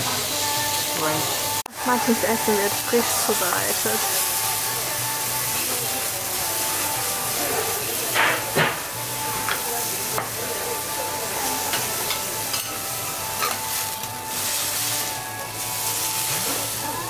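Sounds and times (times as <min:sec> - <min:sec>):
food sizzling on hot surface: 0:00.0 - 0:17.0.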